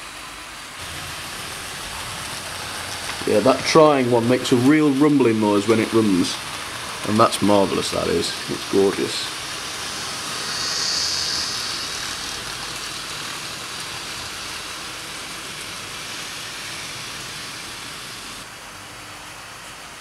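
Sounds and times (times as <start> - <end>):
model train wheels whirring: 0.0 - 20.0.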